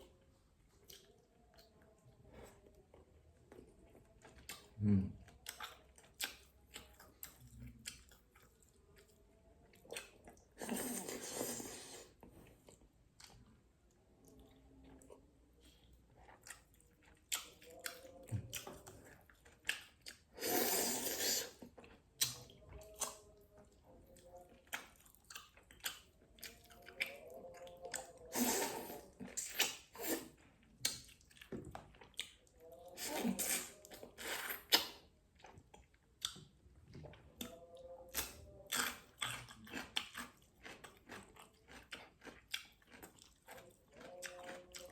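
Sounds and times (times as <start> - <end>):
person chewing with mouth smacks: 0.6 - 13.5, 14.2 - 44.9.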